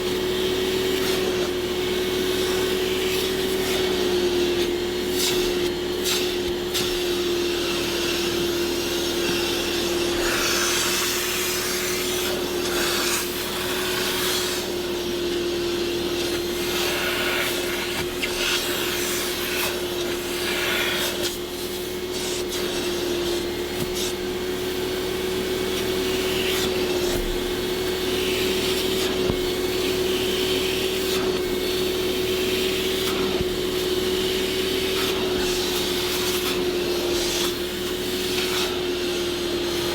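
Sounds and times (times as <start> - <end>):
vacuum motor whine: 0.0 - 39.9
rubbing strokes on upholstery: 0.2 - 39.9.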